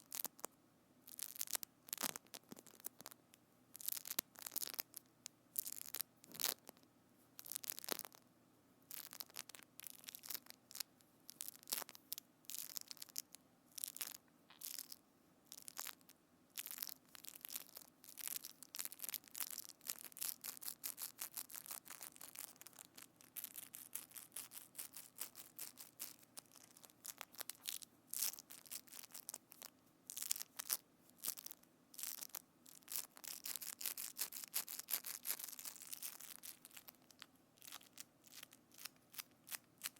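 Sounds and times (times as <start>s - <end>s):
crackling of squeezed sticky material: 0.0s - 6.8s, 7.4s - 8.2s, 8.9s - 39.9s.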